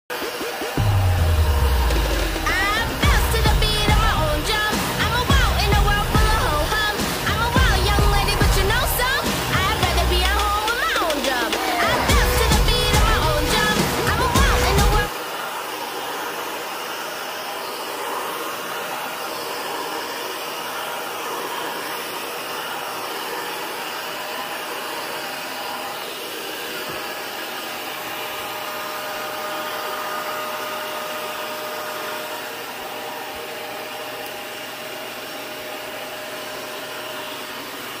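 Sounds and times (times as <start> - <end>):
vacuum cleaner running: 0.1 - 38.0.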